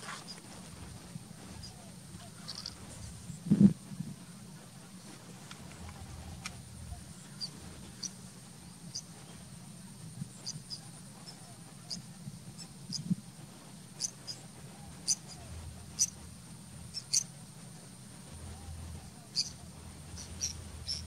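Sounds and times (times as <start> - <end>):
faint high whine: 0.0 - 21.0
small birds chirping: 0.0 - 21.0.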